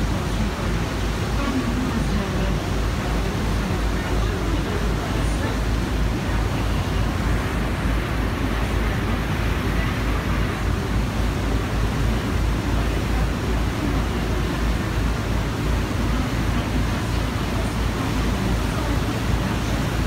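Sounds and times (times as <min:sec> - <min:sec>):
boat engines running: 0:00.0 - 0:20.0
churning wake rushing: 0:00.0 - 0:20.0.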